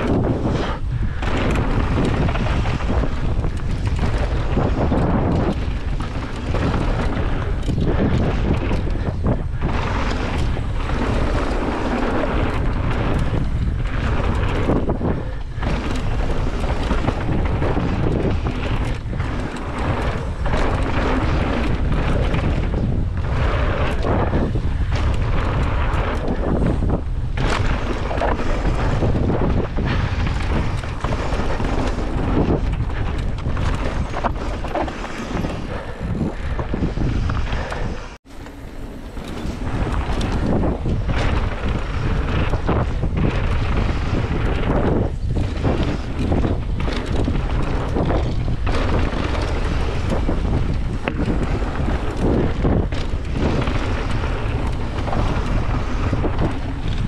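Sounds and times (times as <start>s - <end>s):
tyres rumbling on dirt: 0.0s - 57.0s
wind buffeting microphone: 0.0s - 57.0s.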